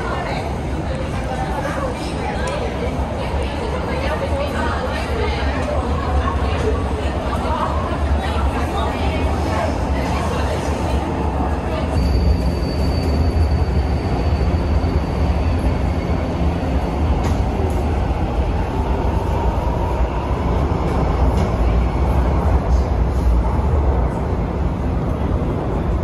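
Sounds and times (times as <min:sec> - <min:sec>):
faint train whine: 0:00.0 - 0:26.0
train deep rumble: 0:00.0 - 0:26.0.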